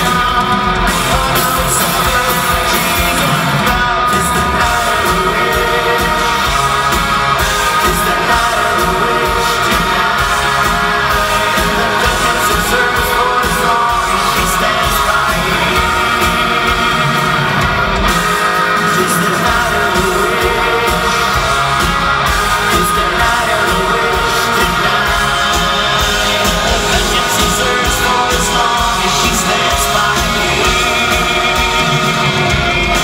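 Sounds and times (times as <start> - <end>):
lead singer's vocal: 0.0 - 33.0
live heavy rock band: 0.0 - 33.0.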